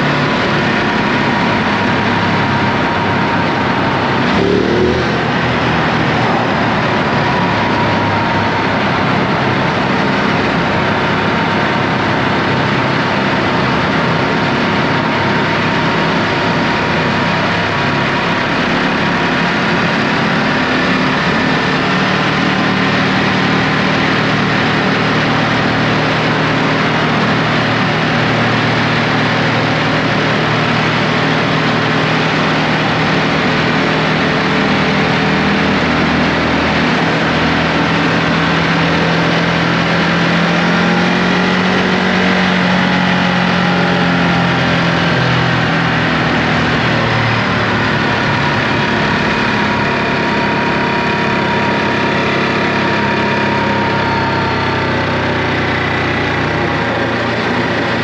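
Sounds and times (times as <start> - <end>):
motorcycle engine running: 0.0 - 58.0
road rush: 0.0 - 58.0.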